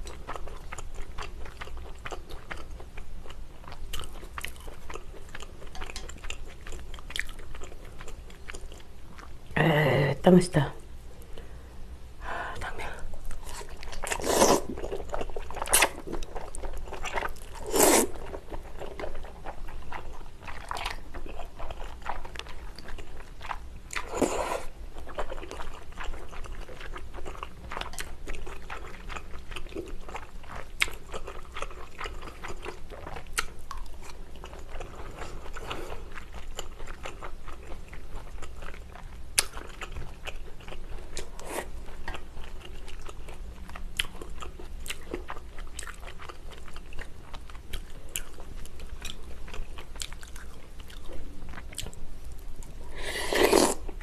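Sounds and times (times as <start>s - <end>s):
close-up chewing and biting: 0.0s - 9.3s, 13.3s - 52.0s.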